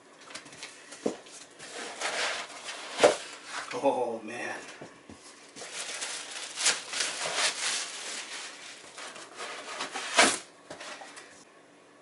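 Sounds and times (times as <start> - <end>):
plastic wrapping rustling: 0.2 - 4.0, 5.2 - 11.3.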